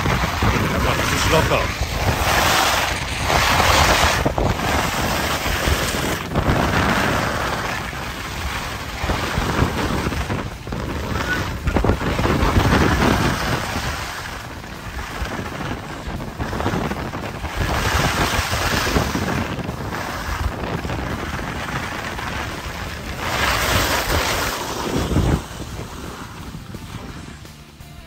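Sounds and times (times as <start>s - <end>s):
wind rushing over microphone: 0.0s - 27.8s.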